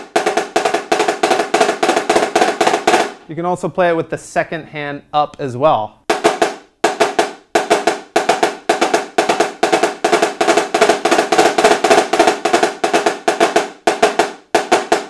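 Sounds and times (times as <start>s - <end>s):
marching snare drum: 0.0s - 3.2s, 6.1s - 15.0s.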